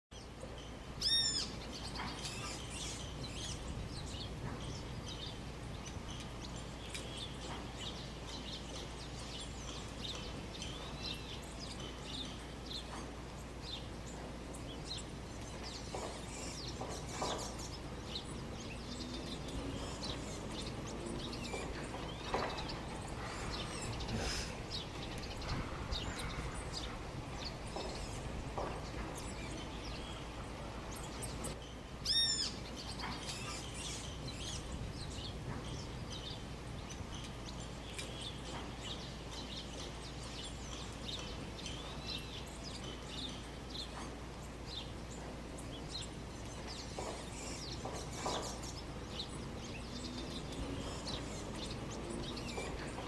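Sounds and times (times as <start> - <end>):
birds chirping and calling: 0.1 - 53.0.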